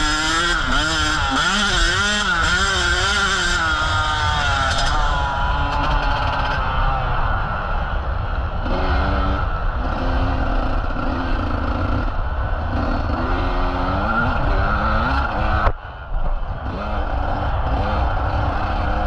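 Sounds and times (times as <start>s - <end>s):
motocross bike engine revving: 0.0s - 7.5s, 8.2s - 19.0s.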